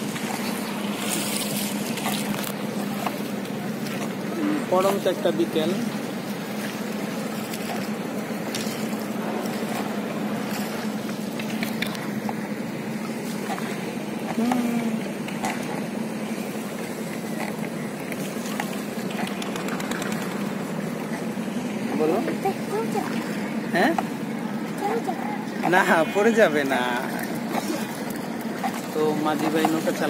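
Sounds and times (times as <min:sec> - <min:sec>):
boat engine drone: 0:00.0 - 0:30.0
water wash: 0:00.0 - 0:30.0.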